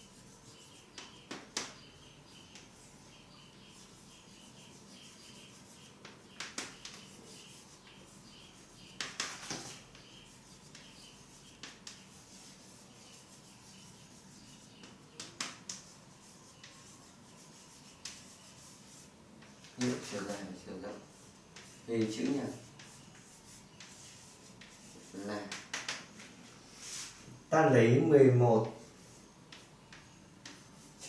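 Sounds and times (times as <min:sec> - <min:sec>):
faint writing on a board: 0:00.0 - 0:27.3, 0:28.6 - 0:31.0.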